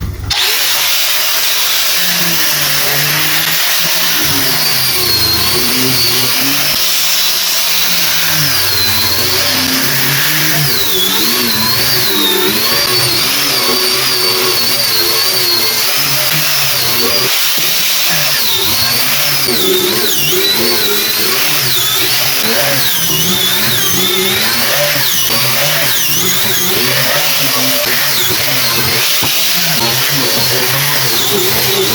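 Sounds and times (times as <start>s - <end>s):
electric sander whining: 0.0s - 31.9s.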